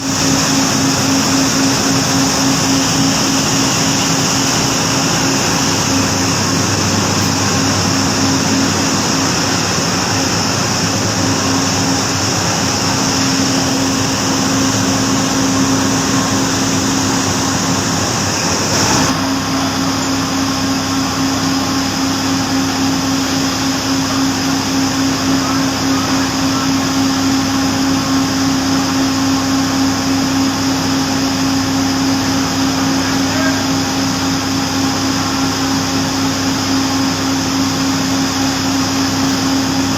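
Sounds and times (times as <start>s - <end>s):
factory machinery droning: 0.0s - 39.9s.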